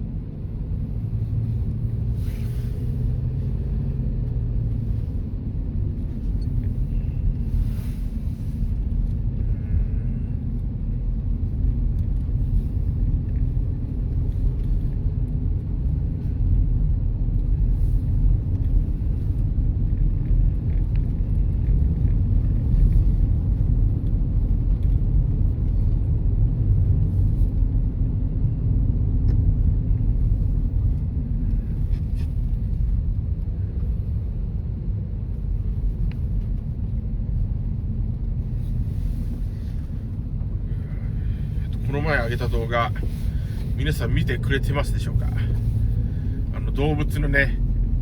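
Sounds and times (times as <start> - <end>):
car tyre and engine rumble: 0.0 - 48.0.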